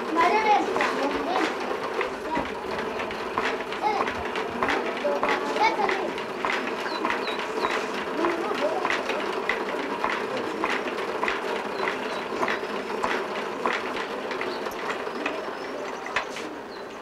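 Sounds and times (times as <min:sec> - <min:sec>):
spinning wheel clacking: 0:00.0 - 0:17.0
spinning wheel whirring: 0:00.0 - 0:17.0.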